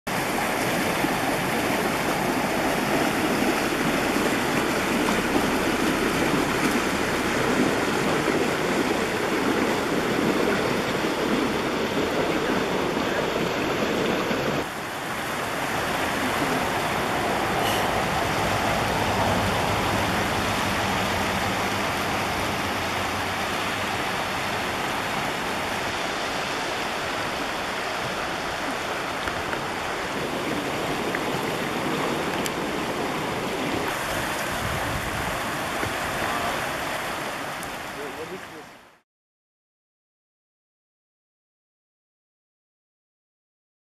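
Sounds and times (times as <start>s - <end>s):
floodwater rushing and churning: 0.1s - 39.0s.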